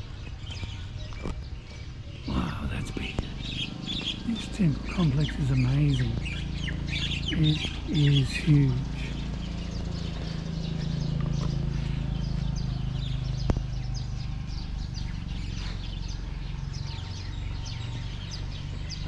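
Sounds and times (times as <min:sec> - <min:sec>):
small birds chirping: 0:00.0 - 0:19.0
steady low hum: 0:02.2 - 0:19.0.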